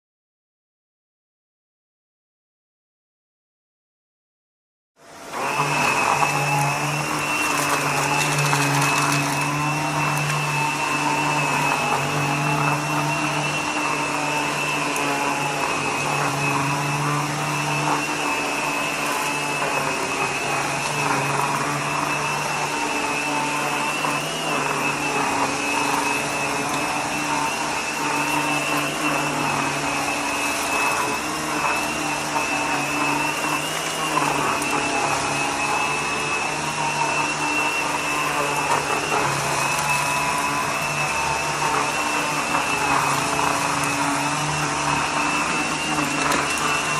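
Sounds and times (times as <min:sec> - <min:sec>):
vacuum cleaner running: 0:05.0 - 0:46.9.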